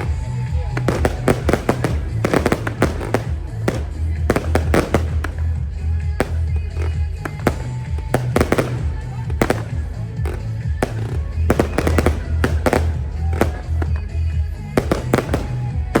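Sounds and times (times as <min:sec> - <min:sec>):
fireworks bursting: 0:00.0 - 0:16.0
music with heavy pulsing bass: 0:00.0 - 0:16.0.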